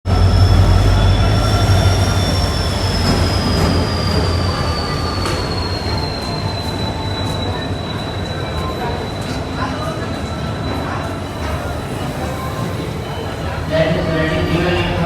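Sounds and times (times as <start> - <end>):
low rumble of moving train: 0.0 - 15.0
train wheels squealing on rails: 0.1 - 15.0.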